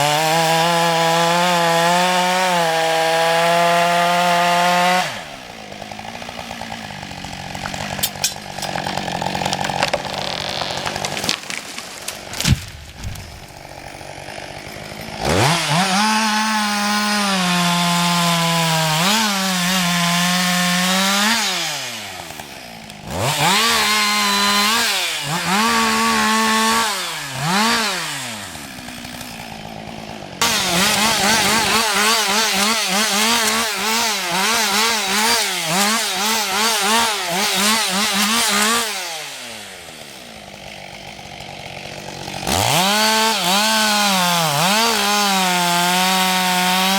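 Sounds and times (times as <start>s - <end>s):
chainsaw revving and cutting wood: 0.0s - 46.9s.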